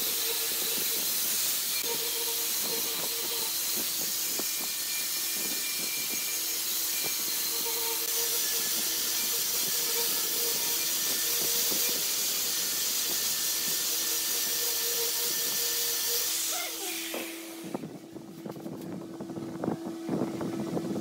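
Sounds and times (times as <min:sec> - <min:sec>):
angle grinder grinding steel: 0:00.0 - 0:17.8
motor whine: 0:00.0 - 0:21.0.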